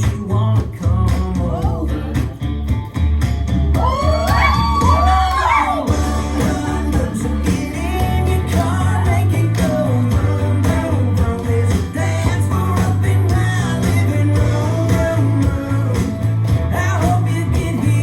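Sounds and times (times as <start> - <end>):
country song with singer and guitar: 0.0 - 18.0.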